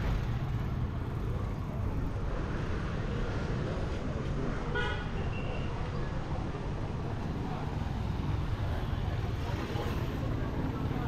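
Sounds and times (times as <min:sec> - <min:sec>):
street traffic rumbling: 0:00.0 - 0:11.0.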